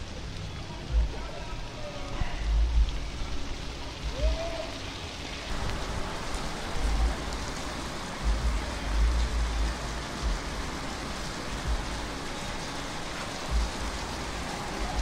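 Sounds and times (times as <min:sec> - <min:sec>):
low rumbles: 0:00.0 - 0:12.8, 0:13.4 - 0:15.0
rain on leaves and wet ground: 0:00.0 - 0:15.0.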